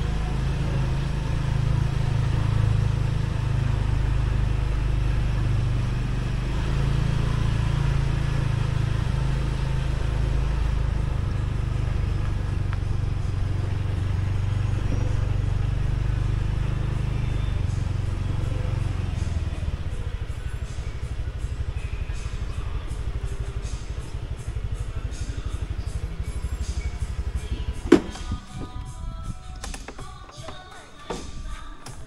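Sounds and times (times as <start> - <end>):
motorbike engine rumble: 0.0 - 32.0.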